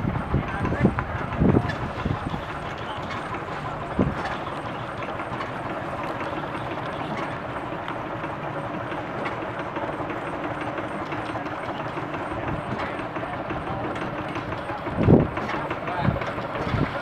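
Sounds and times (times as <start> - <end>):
sawmill mechanical clatter and hum: 0.0 - 17.0.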